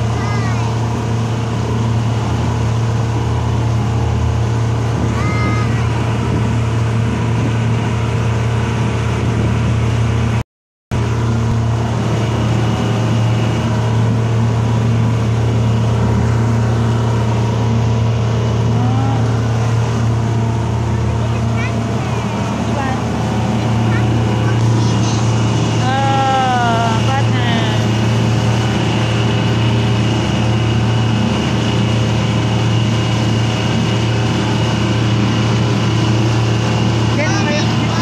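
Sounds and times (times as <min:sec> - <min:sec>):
water rushing past hull: 0:00.0 - 0:10.4, 0:11.0 - 0:38.0
boat motor droning: 0:00.0 - 0:38.0.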